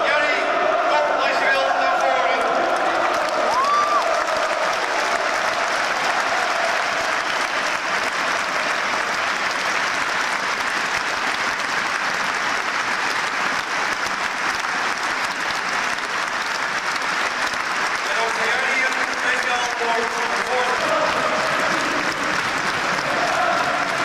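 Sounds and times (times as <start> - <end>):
stadium crowd applauding: 0.0 - 24.0.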